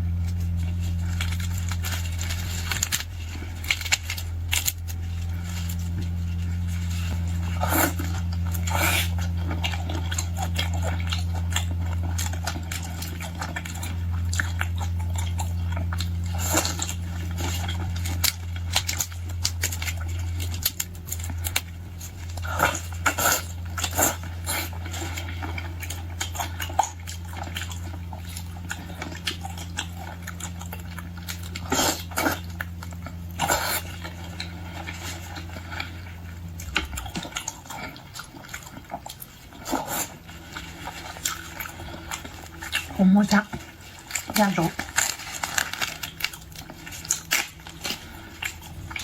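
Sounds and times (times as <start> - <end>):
chewing and crunching shellfish: 0.0 - 49.0
steady low hum: 0.0 - 49.0.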